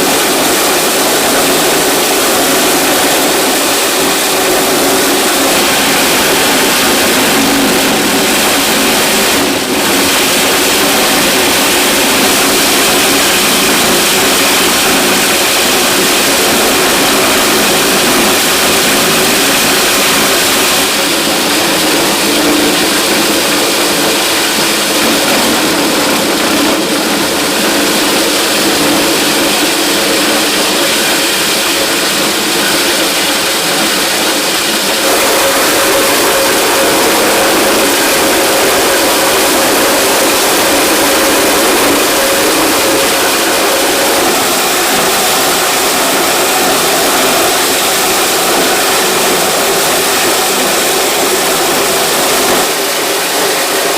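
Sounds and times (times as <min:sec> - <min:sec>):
engine-driven machine running: 0:00.0 - 0:53.9.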